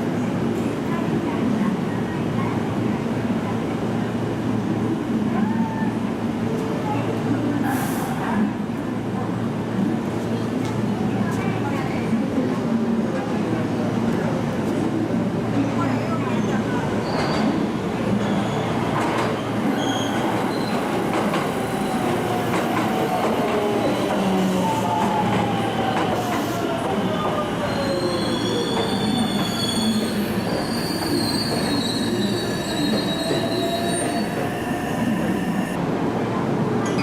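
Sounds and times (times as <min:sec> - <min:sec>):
train rail and wheel noise: 0:00.0 - 0:37.0.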